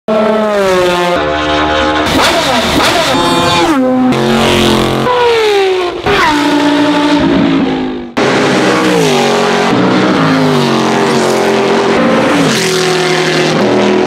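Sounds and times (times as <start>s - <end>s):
race car engines revving: 0.1s - 14.0s.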